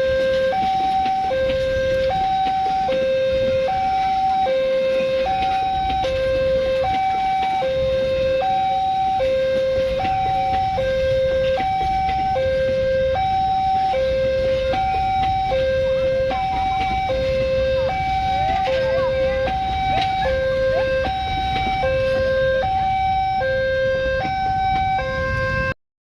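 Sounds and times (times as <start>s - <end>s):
two-tone crossing alarm: 0.0s - 25.8s.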